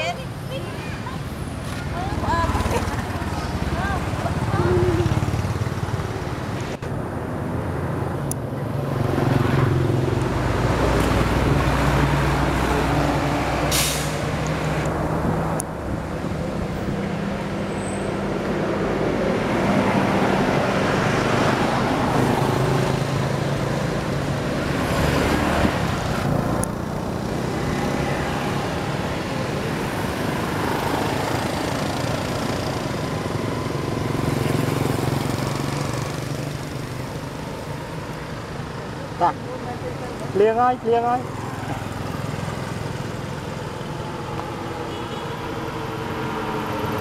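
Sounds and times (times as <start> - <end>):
vehicles passing: 0.0 - 47.0.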